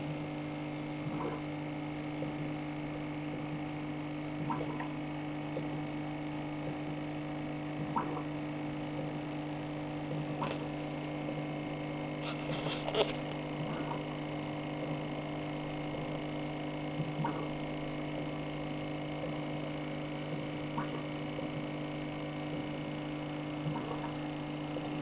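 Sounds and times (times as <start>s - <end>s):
aquarium pump humming: 0.0s - 25.0s.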